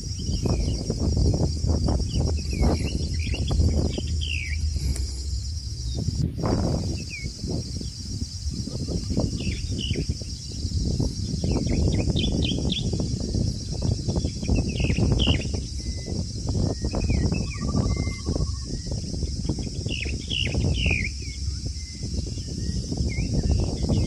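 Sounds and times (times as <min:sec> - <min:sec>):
birds chirping: 0:00.0 - 0:24.0
insects droning: 0:00.0 - 0:24.0
low rumbling noise: 0:00.0 - 0:24.0.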